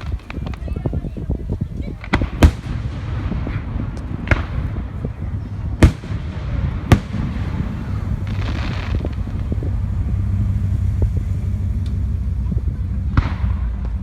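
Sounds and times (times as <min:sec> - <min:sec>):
fireworks bangs: 0:00.0 - 0:14.0
low steady rumble: 0:00.0 - 0:14.0.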